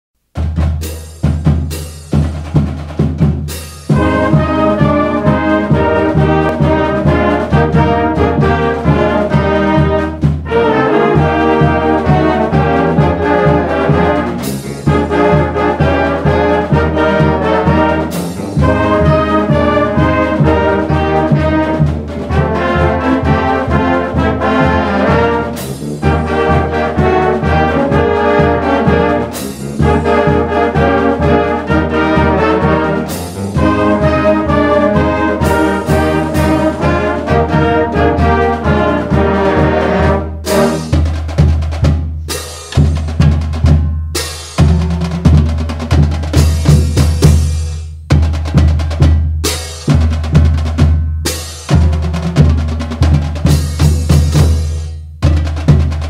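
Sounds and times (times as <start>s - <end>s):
marching band playing: 0.3s - 56.0s.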